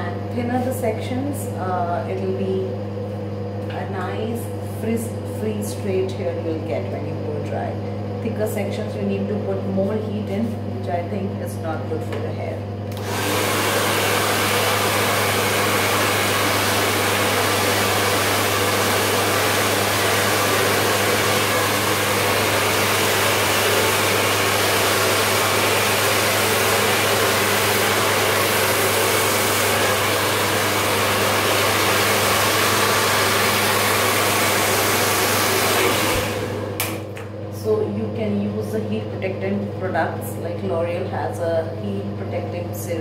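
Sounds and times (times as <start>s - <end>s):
hair dryer blowing: 1.4s - 41.1s.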